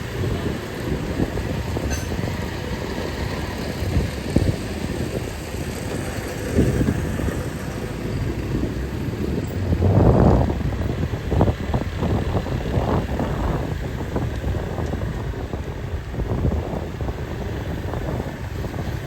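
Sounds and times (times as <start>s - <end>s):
motorbike engines passing: 0.0s - 19.0s.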